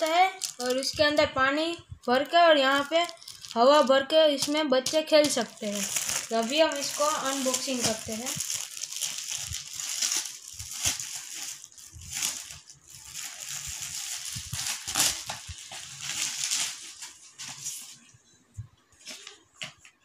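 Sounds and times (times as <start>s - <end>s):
plastic wrapping crinkling: 0.0s - 18.1s.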